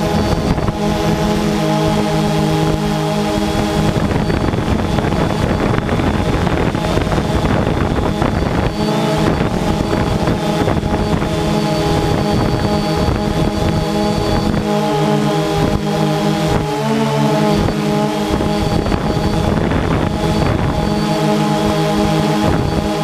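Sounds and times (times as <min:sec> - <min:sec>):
drone propellers whirring: 0:00.0 - 0:23.0
wind on microphone: 0:00.0 - 0:23.0.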